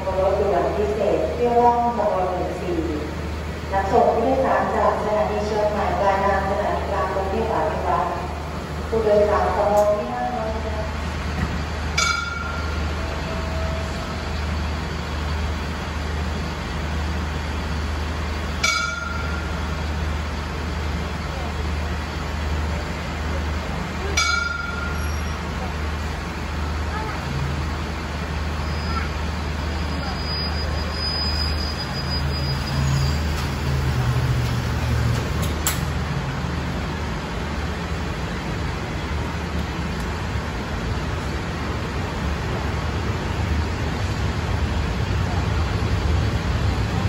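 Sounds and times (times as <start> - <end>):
train engines humming: 0.0 - 47.0.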